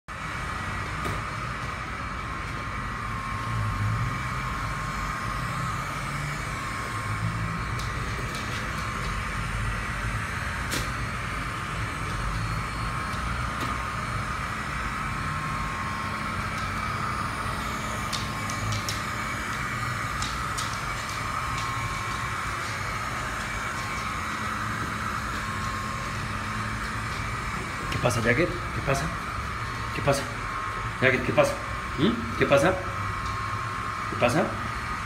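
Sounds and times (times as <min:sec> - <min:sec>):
robot vacuum whirring: 0:00.2 - 0:35.0.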